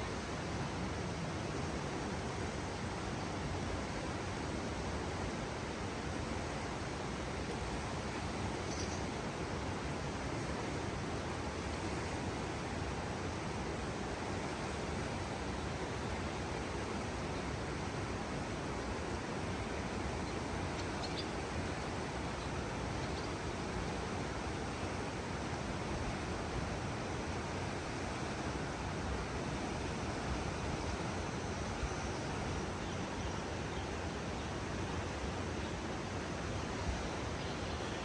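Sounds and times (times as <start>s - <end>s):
flowing water: 0.0s - 38.0s.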